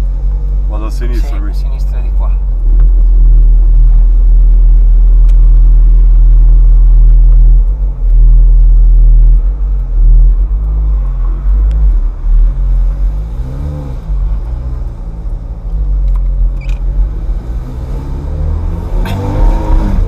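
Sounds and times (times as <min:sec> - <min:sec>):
car engine at low revs: 0:00.0 - 0:20.0.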